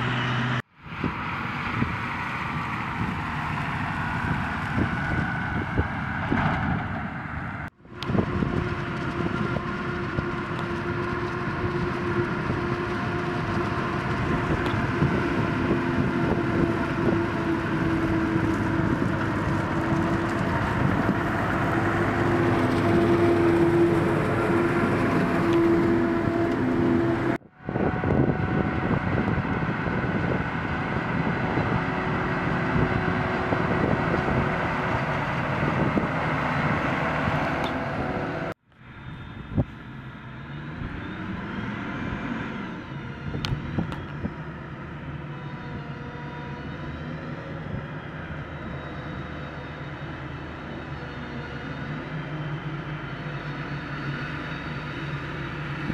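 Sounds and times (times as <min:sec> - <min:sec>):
forage harvester chopping with whine: 0:00.0 - 0:55.9
tractor diesel engine running: 0:00.0 - 0:55.9.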